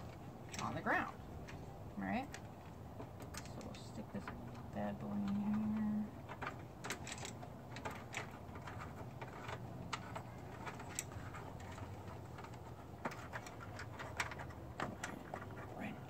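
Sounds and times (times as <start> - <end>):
light clicks and handling noise: 0.0 - 16.0.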